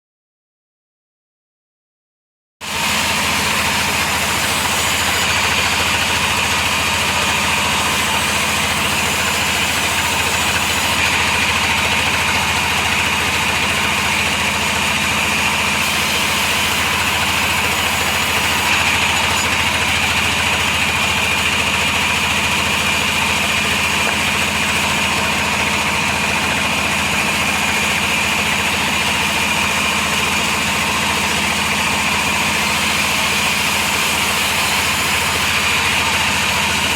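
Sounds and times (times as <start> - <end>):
high-pitched saw whine: 2.6 - 36.9
sawmill machinery motor hum: 2.6 - 36.9.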